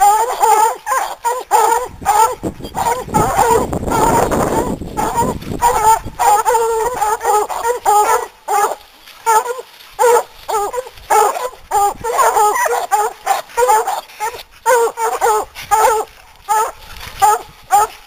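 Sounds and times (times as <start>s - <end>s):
dogs barking rapidly: 0.0s - 18.0s.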